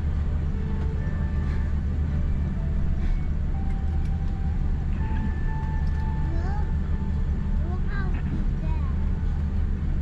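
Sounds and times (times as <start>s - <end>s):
airplane cabin drone: 0.0s - 10.0s
light music: 0.0s - 10.0s.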